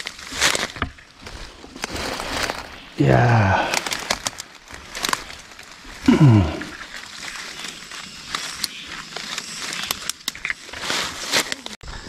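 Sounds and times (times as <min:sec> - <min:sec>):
bushes rustling and crackling: 0:00.0 - 0:11.8.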